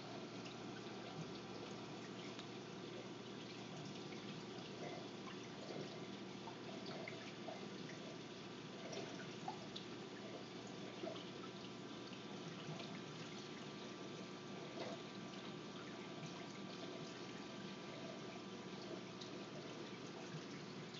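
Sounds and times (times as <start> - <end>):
faint constant hiss: 0.0 - 20.9
water trickling and dripping: 0.1 - 20.9.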